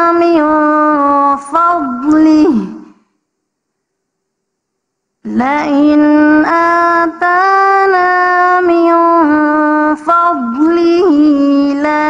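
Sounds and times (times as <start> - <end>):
woman chanting recitation: 0.0 - 3.1, 5.2 - 12.0.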